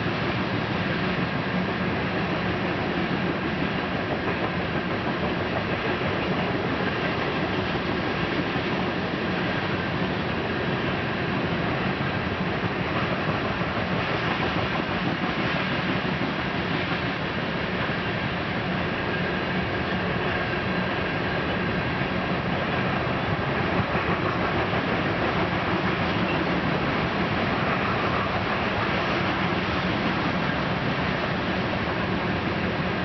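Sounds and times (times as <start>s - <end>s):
freight train wheels rumbling on track: 0.0s - 33.0s.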